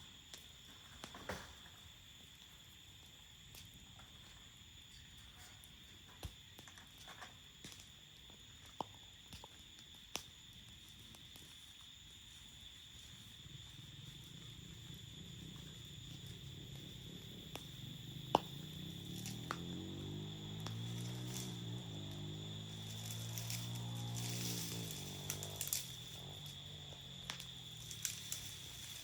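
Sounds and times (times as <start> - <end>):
campfire crackling and popping: 0.0 - 4.1, 6.1 - 29.0
crickets chirring: 0.0 - 29.0.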